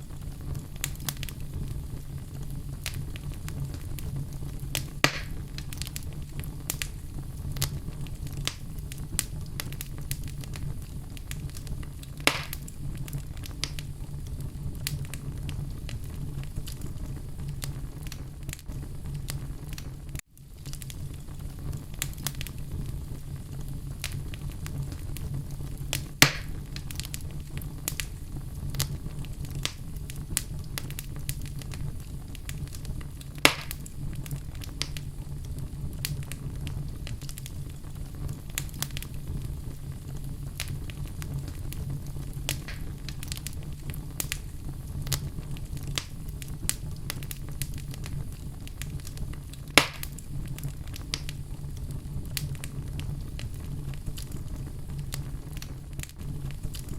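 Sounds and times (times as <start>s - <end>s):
fire crackling: 0.0s - 56.9s
fire flames rumbling: 0.0s - 56.9s
sharp pops from fire: 0.0s - 56.9s.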